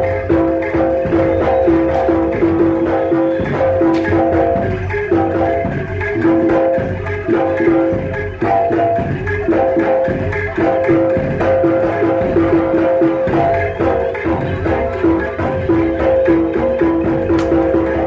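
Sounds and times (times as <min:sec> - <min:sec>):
pitched percussion notes: 0:00.0 - 0:18.0
steady drumming: 0:00.0 - 0:18.0.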